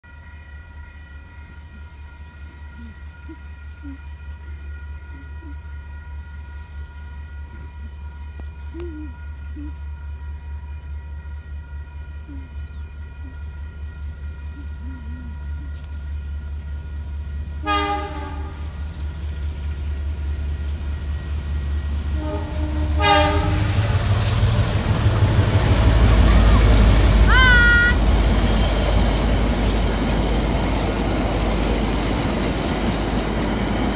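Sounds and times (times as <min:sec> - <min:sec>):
train horn blasts: 0:00.0 - 0:28.1
diesel locomotive engine rumble: 0:00.0 - 0:33.9.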